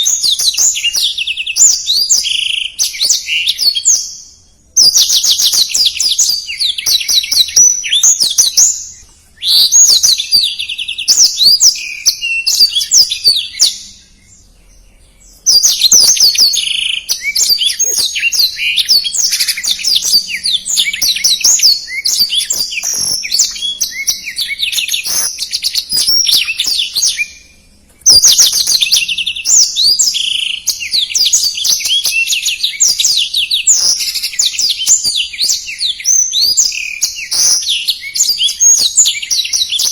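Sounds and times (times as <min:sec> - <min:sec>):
bird singing rapid trills: 0:00.0 - 0:39.9.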